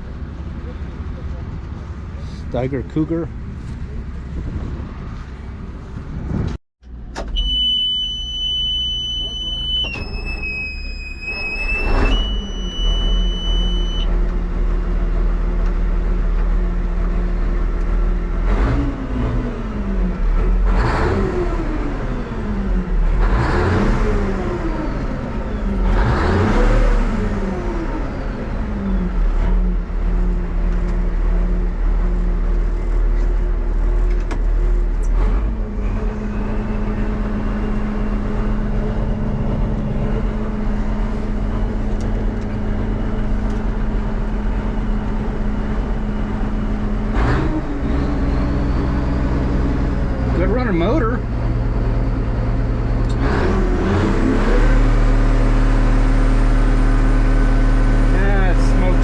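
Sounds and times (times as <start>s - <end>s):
tractor diesel engine revving: 0.0s - 6.6s, 8.9s - 59.0s.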